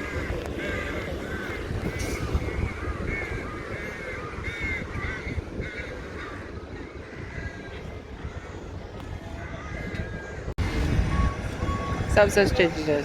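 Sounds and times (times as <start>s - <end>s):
bird cawing: 0.0s - 10.5s
steady low rumble: 0.0s - 13.0s.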